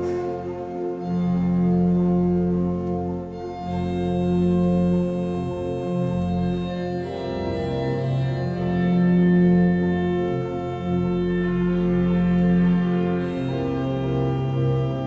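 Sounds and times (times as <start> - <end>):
pipe organ playing march chords: 0.0 - 15.0.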